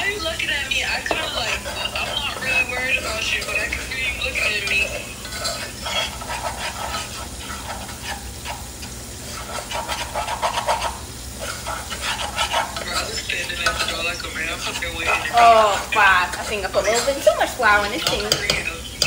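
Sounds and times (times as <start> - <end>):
steady sizzle: 0.0 - 19.0
utensil scraping metal saucepan: 0.0 - 19.0.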